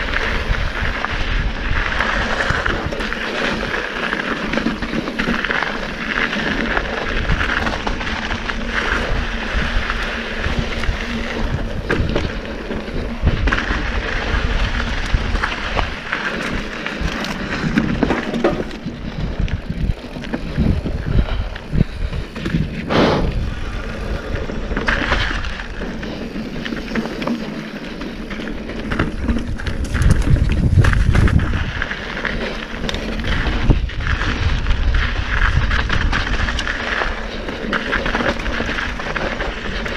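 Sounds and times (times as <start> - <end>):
wind on microphone: 0.0 - 26.6, 28.4 - 39.9
bike rattling over bumps: 0.0 - 39.9
tyres on dirt and rock: 0.0 - 39.9.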